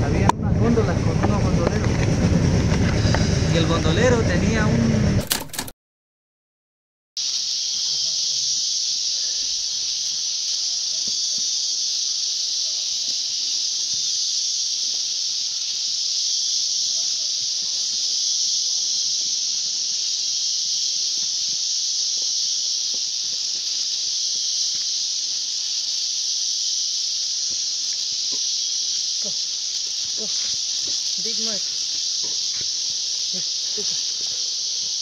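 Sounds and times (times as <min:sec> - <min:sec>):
insect chorus: 0:00.0 - 0:05.4, 0:07.2 - 0:35.0.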